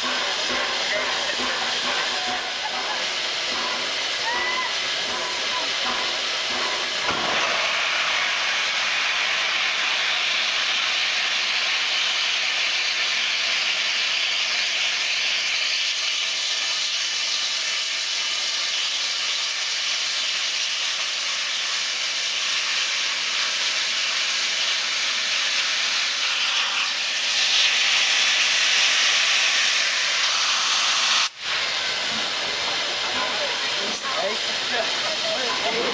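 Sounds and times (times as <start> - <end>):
locomotive steam hissing: 0.0 - 35.9.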